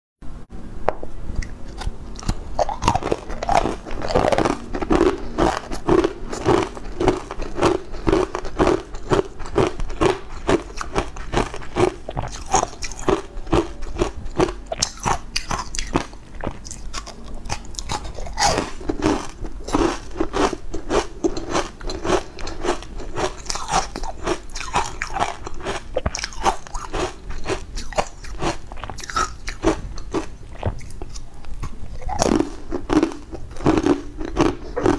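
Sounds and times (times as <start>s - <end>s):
crisp crunchy chewing: 1.4s - 34.9s.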